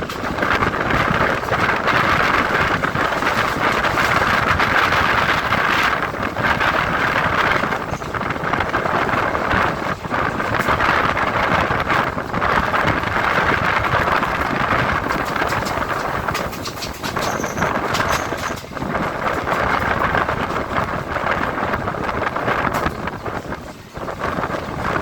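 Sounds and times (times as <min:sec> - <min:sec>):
train rumble and air rush: 0:00.0 - 0:25.0.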